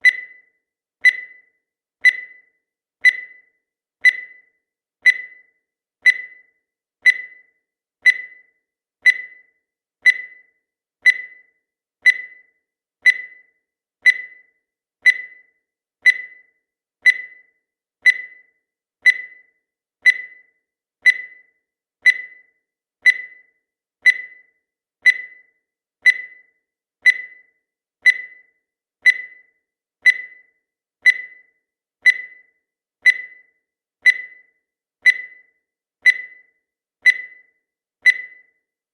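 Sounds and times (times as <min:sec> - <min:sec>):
high-pitched timer ticks: 0:00.0 - 0:38.8.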